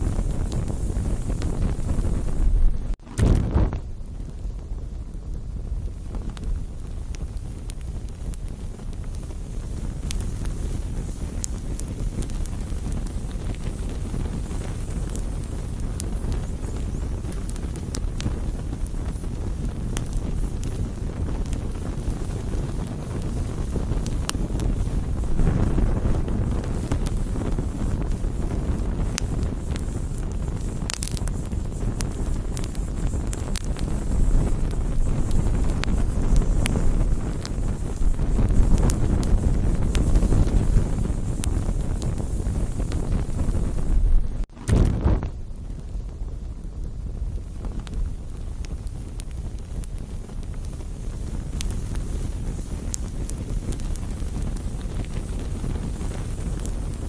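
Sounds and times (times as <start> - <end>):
burning wood crackling: 0.0 - 57.0
low rushing fire noise: 0.0 - 57.0.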